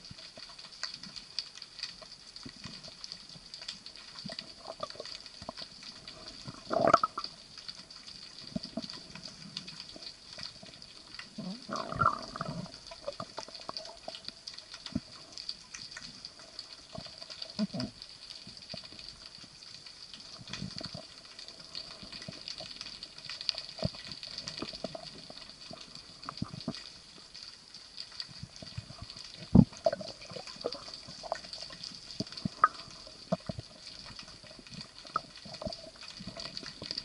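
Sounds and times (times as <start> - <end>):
small clicks and crackles: 0.0 - 37.0.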